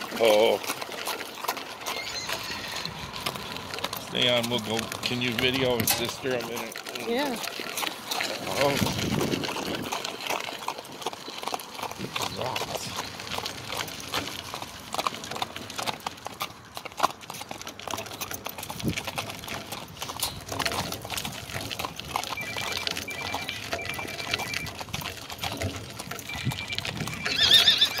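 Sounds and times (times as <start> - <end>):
cart wheels crunching over stones: 0.0 - 28.0
hooves clip-clopping on gravel: 0.0 - 28.0.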